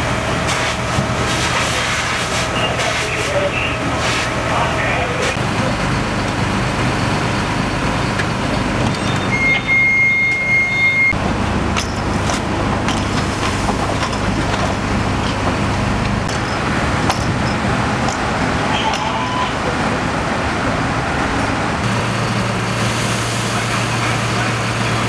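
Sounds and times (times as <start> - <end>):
fire engines droning: 0.0 - 25.0.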